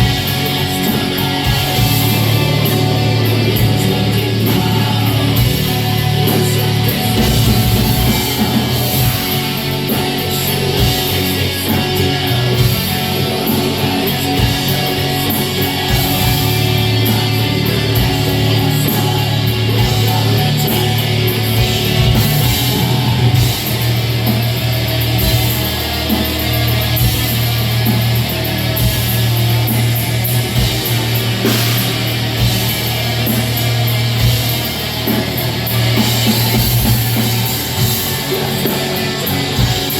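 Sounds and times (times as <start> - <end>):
bass guitar: 0.0 - 39.9
distorted guitars: 0.0 - 39.9
fast drumming: 0.0 - 39.9.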